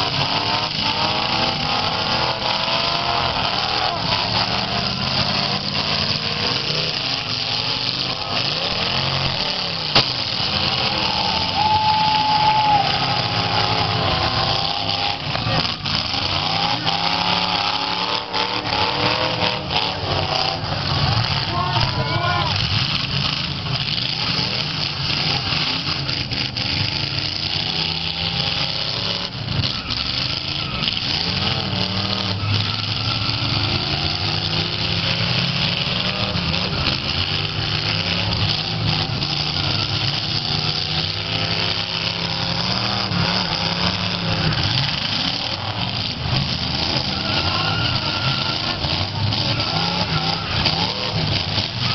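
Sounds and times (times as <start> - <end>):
car engines revving: 0.0 - 51.9
cars knocking together: 0.0 - 51.9.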